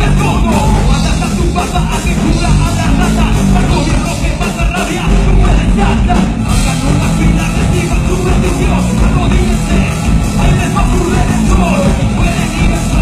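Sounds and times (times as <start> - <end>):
bass guitar: 0.0 - 13.0
drums: 0.0 - 13.0
electric guitars: 0.0 - 13.0
person singing: 0.0 - 13.0.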